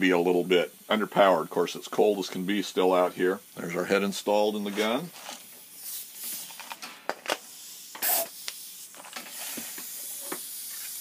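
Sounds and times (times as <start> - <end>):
air hiss: 0.0 - 11.0.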